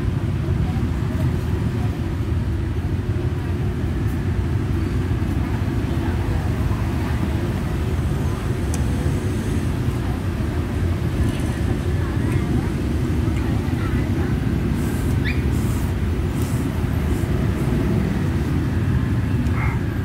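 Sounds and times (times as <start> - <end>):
faint voices: 0.0 - 20.0
low street rumble: 0.0 - 20.0.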